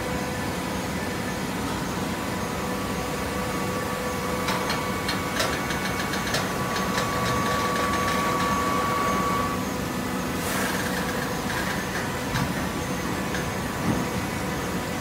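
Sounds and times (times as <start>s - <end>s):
hydraulic baler humming: 0.0s - 15.0s
hydraulic whine: 1.0s - 14.8s.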